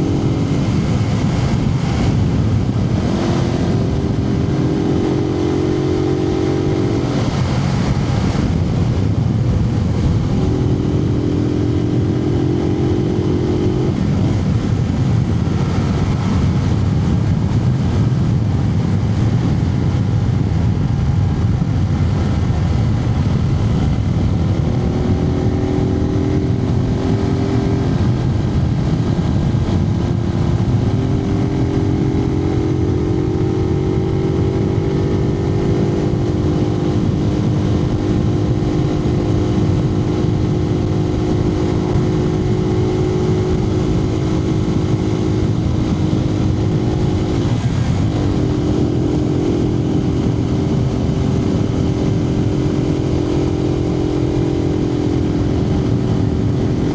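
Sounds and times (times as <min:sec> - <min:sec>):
motorcycle engine running: 0:00.0 - 0:56.9
road rumble: 0:00.0 - 0:56.9
wind noise: 0:00.0 - 0:56.9.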